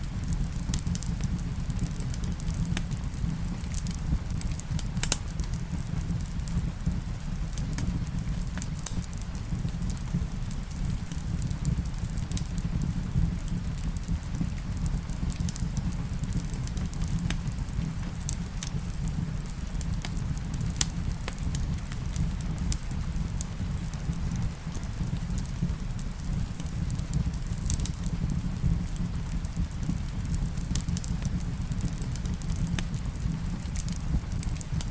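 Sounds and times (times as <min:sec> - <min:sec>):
low rumble: 0:00.0 - 0:34.6
rain hiss: 0:00.0 - 0:34.9
wood fire crackling and popping: 0:00.0 - 0:34.9.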